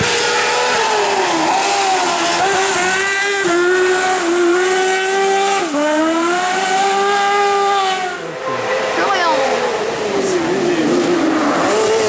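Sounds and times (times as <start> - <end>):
racing buggy engine revving: 0.0 - 12.0.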